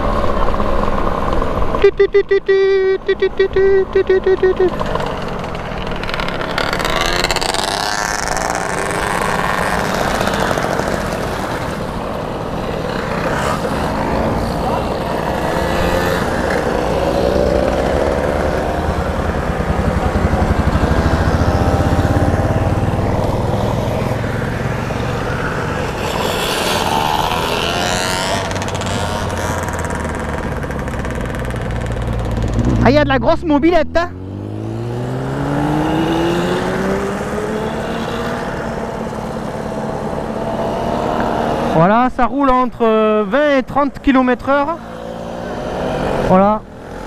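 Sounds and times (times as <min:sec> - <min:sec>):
mopeds riding past: 0:03.2 - 0:47.0.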